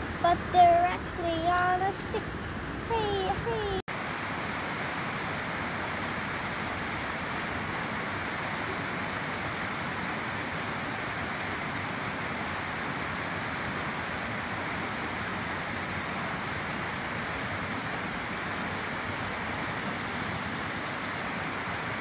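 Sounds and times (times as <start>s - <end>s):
river flowing: 0.0s - 22.0s.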